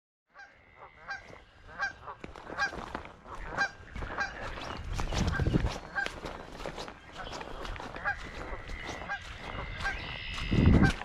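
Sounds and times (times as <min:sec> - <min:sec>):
geese honking: 0:00.3 - 0:11.0.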